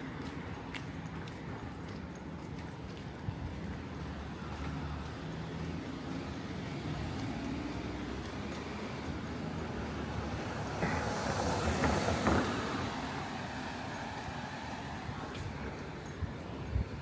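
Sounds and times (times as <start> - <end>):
urban street noise: 0.0 - 17.0
vehicle passing: 2.5 - 17.0.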